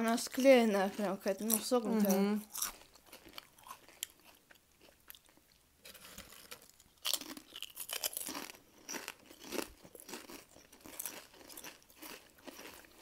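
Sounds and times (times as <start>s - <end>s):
potato chips crunching: 0.1s - 13.0s.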